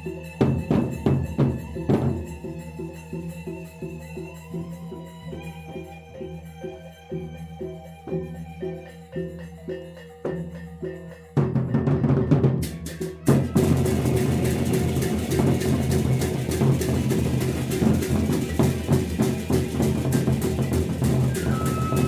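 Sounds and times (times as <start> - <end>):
percussion ensemble with cymbals: 0.0 - 22.0.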